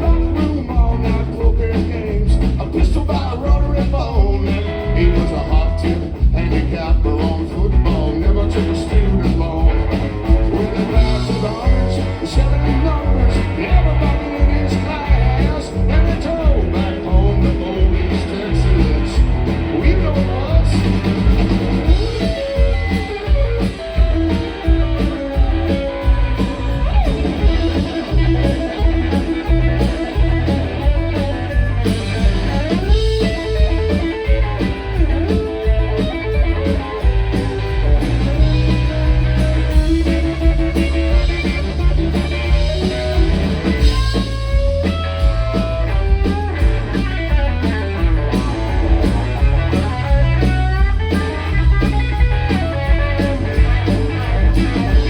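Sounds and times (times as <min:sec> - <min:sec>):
bass guitar: 0:00.0 - 0:55.0
lead electric guitar with bent notes: 0:00.0 - 0:55.0
steady drum beat: 0:00.0 - 0:55.0.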